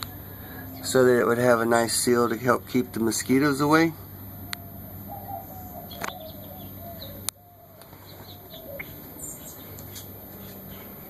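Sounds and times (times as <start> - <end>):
high bird chirps: 0.0 - 11.0
low gliding bird calls: 0.0 - 11.0.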